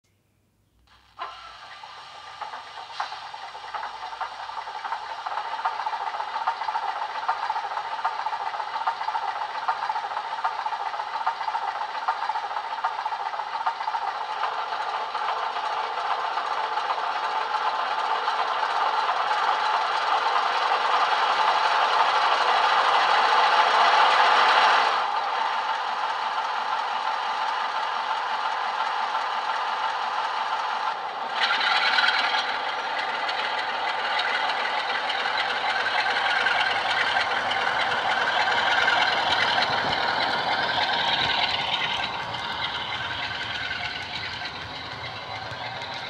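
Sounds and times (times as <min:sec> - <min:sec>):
diesel engine sound from small speaker: 0:00.9 - 0:46.0.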